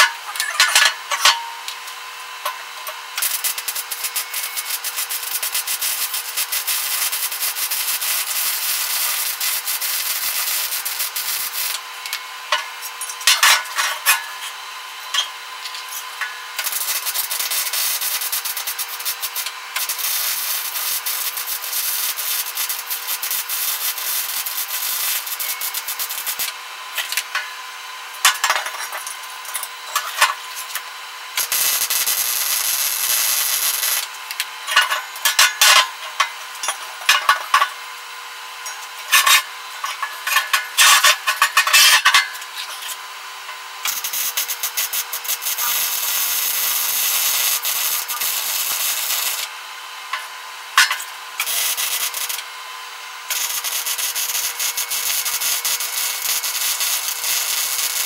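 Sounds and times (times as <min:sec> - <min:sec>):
welding arc crackling and hissing: 0:00.0 - 0:58.0.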